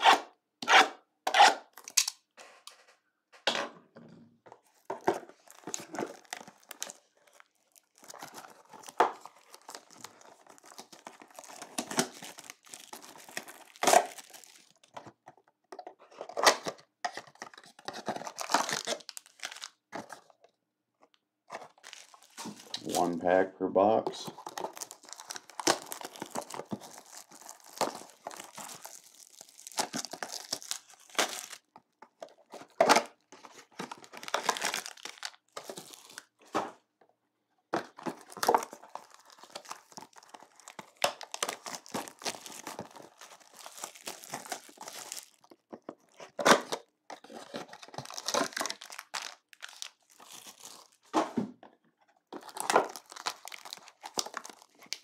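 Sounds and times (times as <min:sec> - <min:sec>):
plastic shrink wrap crinkling and tearing: 0:04.6 - 0:15.4, 0:16.2 - 0:20.4, 0:21.1 - 0:23.2, 0:24.2 - 0:36.5, 0:37.9 - 0:51.1, 0:52.2 - 0:55.0.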